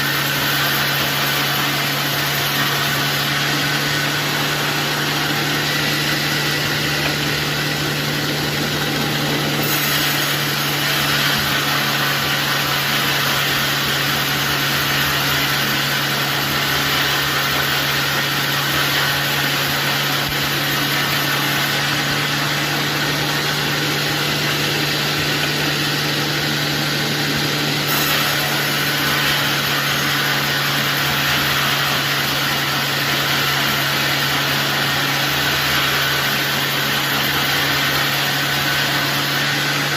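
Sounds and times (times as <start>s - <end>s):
sawmill motor hum: 0.0s - 39.9s.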